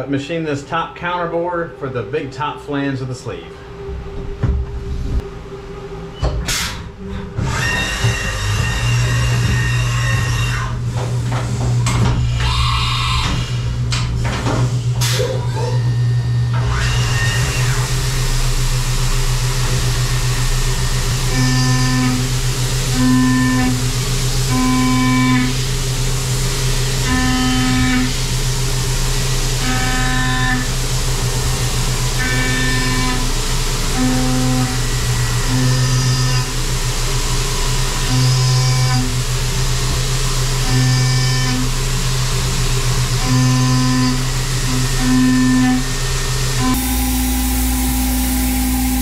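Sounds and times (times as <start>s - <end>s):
machine hum: 0.0s - 49.0s
cutting whine: 3.3s - 49.0s.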